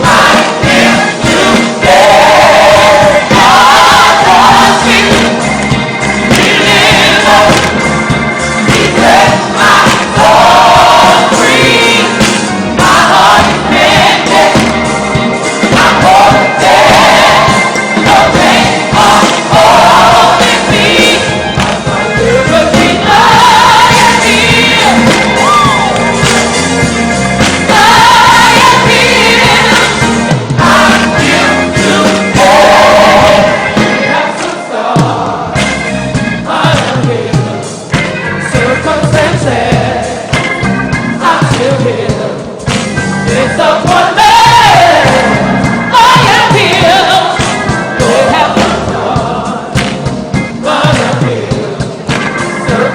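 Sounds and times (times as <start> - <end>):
instrumental accompaniment: 0.0 - 52.9
voices singing gospel: 0.0 - 52.9.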